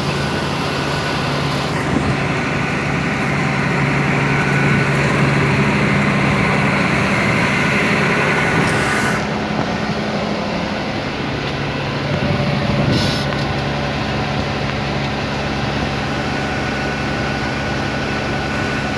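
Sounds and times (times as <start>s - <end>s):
farm machine engine running: 0.0s - 18.9s.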